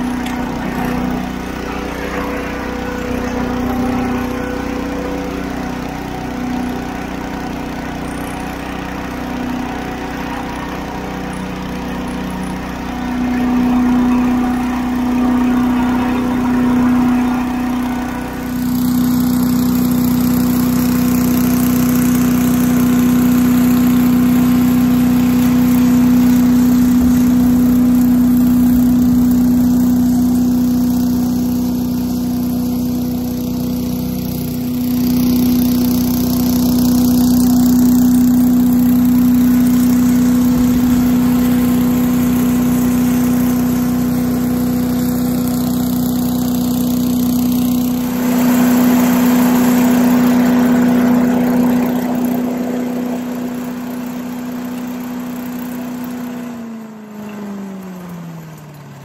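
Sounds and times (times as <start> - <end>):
engine drone: 0.0 - 59.0.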